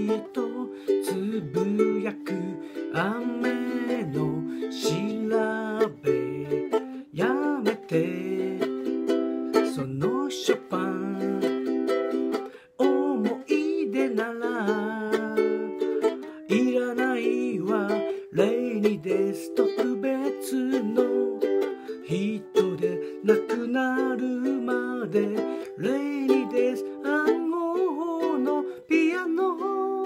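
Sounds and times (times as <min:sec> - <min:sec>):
ukulele strumming: 0:00.0 - 0:30.0.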